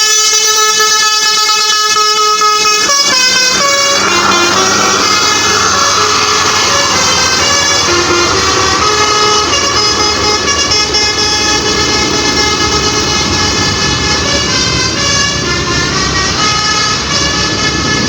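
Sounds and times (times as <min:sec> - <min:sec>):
multi-tone bus horn melody: 0:00.0 - 0:18.0
road noise: 0:02.1 - 0:18.0
bus engine rumble: 0:02.5 - 0:18.0.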